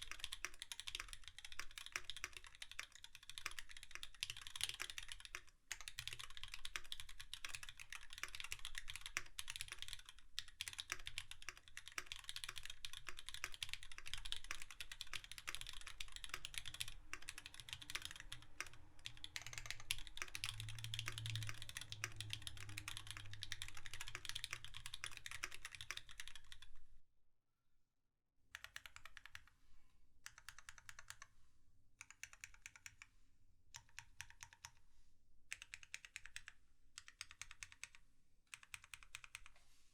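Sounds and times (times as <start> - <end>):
mechanical keyboard typing: 0.0 - 26.8, 28.6 - 29.5, 30.3 - 31.3, 32.0 - 33.1, 33.8 - 34.8, 35.5 - 39.5.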